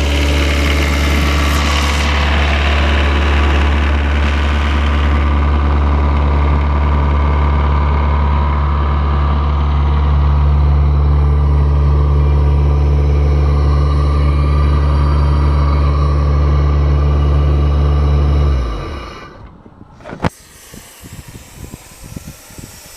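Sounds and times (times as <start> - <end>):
air compressor diesel engine running: 0.0 - 22.9.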